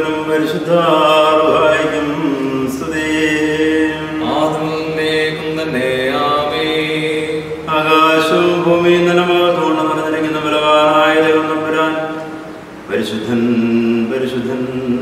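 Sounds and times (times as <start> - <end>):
man chanting prayer: 0.0 - 15.0.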